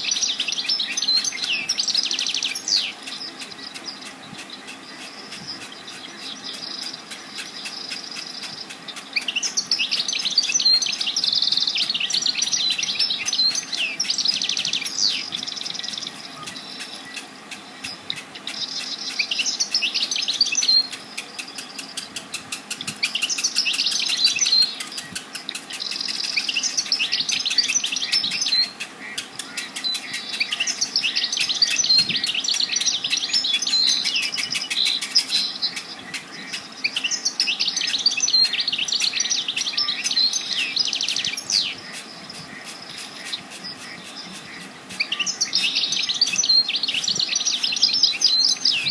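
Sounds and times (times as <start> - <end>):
faint background hiss: 0.0 - 48.9
songbirds chirping and trilling: 0.0 - 48.9.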